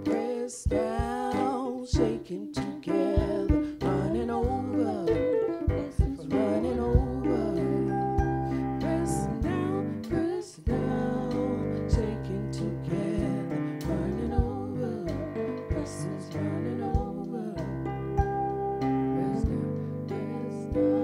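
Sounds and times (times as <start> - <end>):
person singing: 0.0 - 17.9, 19.1 - 21.0.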